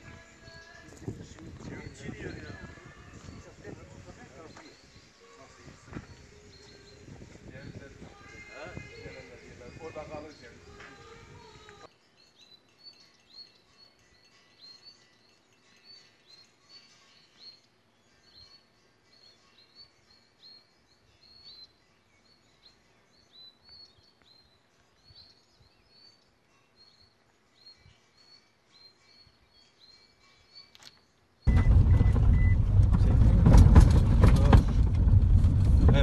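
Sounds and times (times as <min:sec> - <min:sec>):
faint bird chirps: 0:00.0 - 0:32.6.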